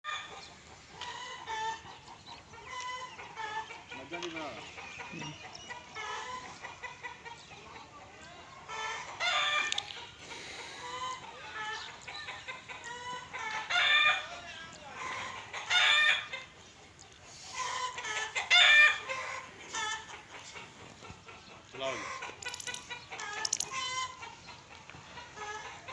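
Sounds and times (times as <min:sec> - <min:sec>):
chickens clucking: 0:00.1 - 0:25.9.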